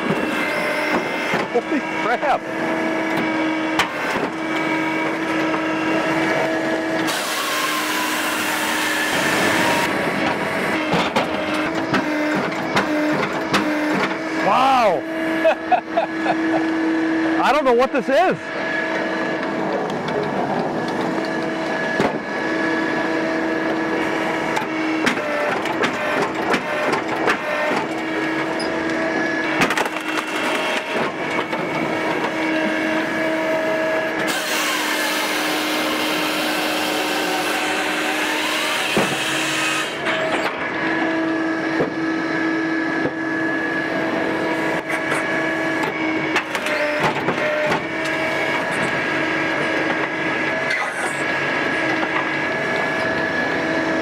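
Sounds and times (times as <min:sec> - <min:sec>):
saw cutting through log: 0:00.0 - 0:19.8, 0:20.7 - 0:54.0
firewood processor humming: 0:00.0 - 0:54.0.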